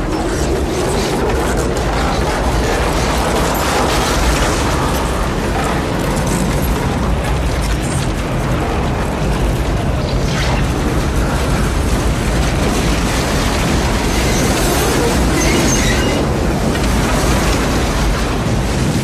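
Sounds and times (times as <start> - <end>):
heavy low rumble: 0.0 - 19.0
tornado wind roaring: 0.0 - 19.0.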